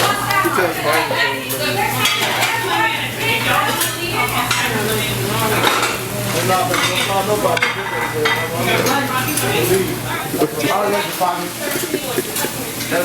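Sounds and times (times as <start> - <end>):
dishes and cutlery clinking: 0.0 - 13.0
overlapping voices: 0.0 - 13.0.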